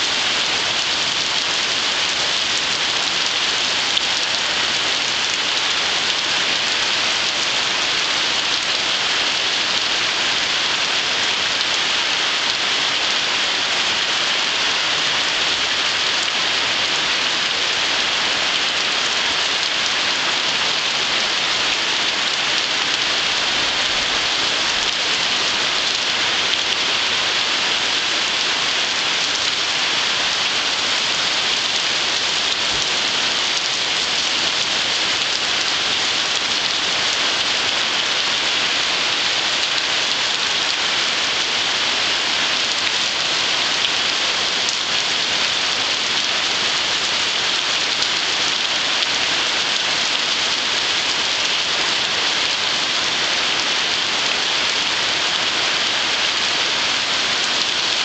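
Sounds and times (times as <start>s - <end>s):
heavy rain on water: 0.0s - 58.0s.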